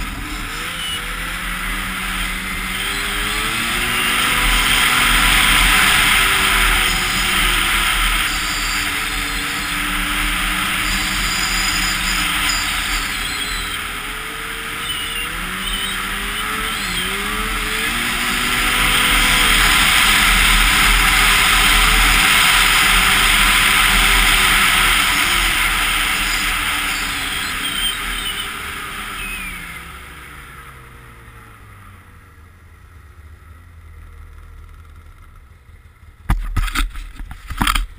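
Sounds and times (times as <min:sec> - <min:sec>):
snowmobile engine running: 0:00.0 - 0:37.9.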